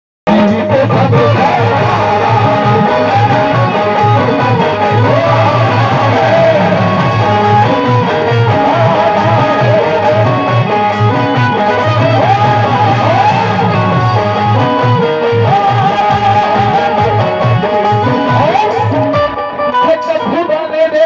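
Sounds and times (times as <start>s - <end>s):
plucked string melody: 0.3s - 20.9s.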